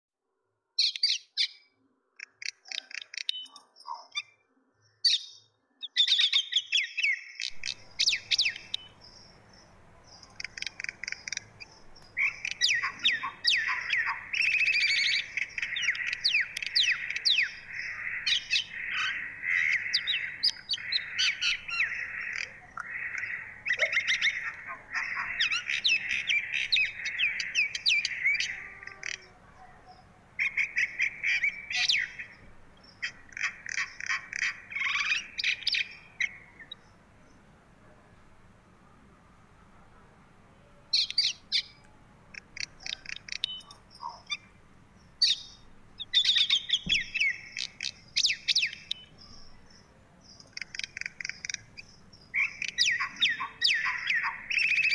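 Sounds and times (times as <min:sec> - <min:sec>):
small birds chirping: 0:00.8 - 0:38.6, 0:40.6 - 0:54.9.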